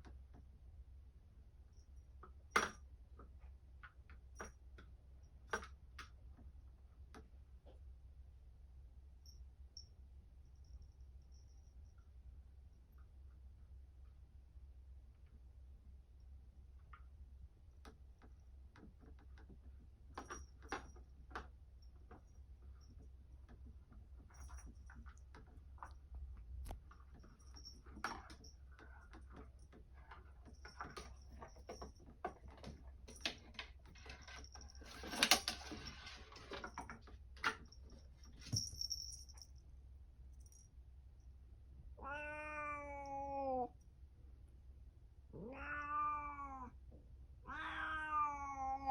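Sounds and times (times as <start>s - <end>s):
low steady hum: 0.0s - 47.6s.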